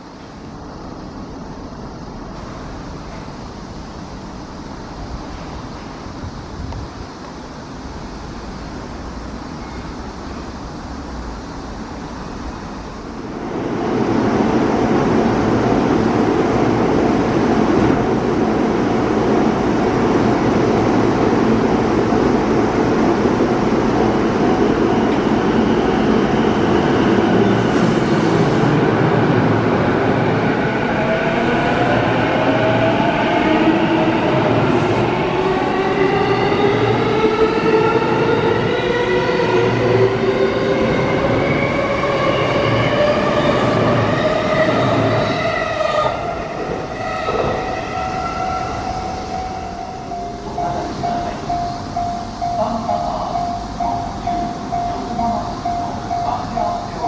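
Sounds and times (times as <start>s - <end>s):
electric train running rumble: 0.0s - 57.0s.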